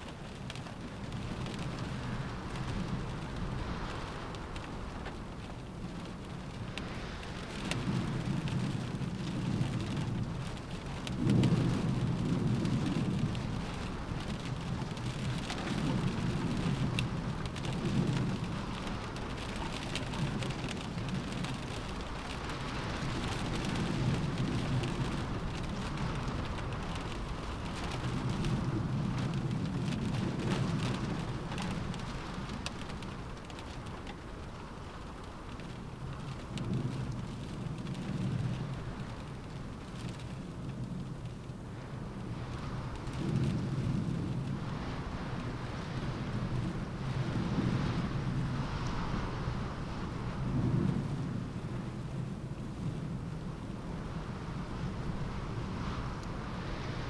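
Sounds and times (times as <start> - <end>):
low thunder rumbles: 0.0 - 57.0
rain pattering on a window: 0.0 - 57.0.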